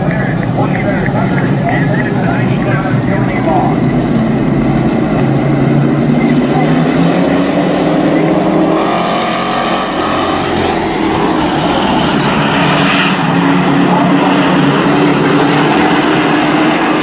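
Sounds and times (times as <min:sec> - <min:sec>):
race car engines in a pack: 0:00.0 - 0:17.0.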